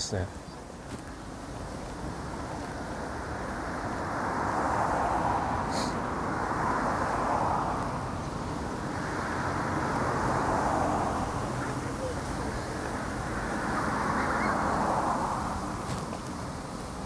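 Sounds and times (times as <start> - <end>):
cars passing: 0.0 - 17.0
steady low traffic rumble: 0.0 - 17.0.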